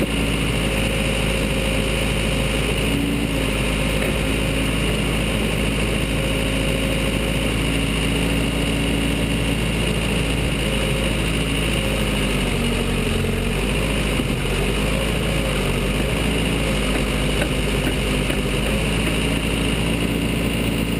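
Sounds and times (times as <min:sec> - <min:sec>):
backhoe diesel engine running: 0:00.0 - 0:20.9.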